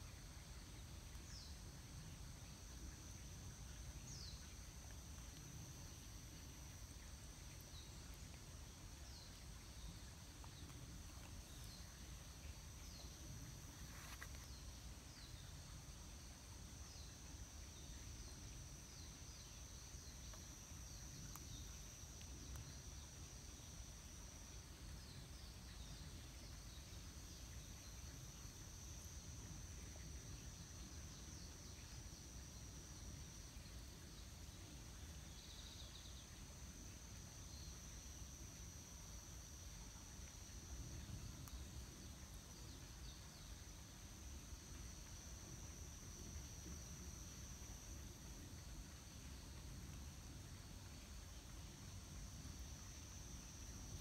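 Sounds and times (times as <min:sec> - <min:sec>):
high insect trill: 0:00.0 - 0:54.0.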